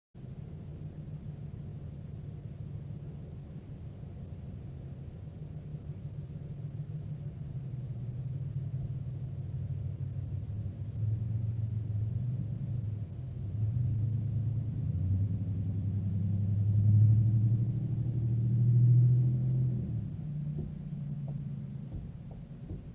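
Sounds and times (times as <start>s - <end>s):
vehicle engine rumbling: 0.2s - 22.9s.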